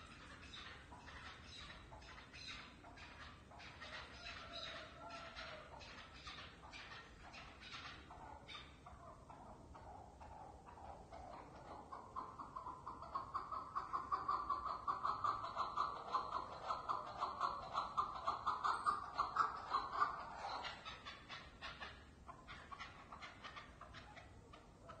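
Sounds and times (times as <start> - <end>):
partridge clucking calls: 0.0 - 25.0.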